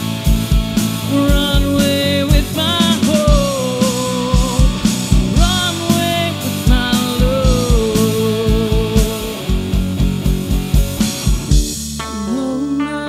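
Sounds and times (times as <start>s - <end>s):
drum kit beat: 0.0s - 12.4s
electric bass: 0.0s - 13.0s
electric guitar: 0.0s - 13.0s.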